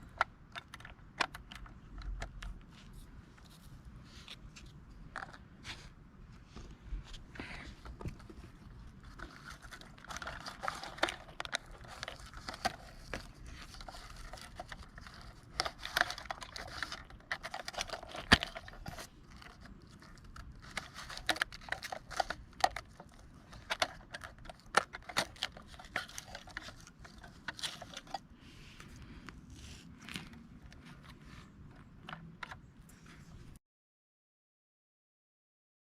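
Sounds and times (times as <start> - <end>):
crinkling rustles: 0.0 - 33.6.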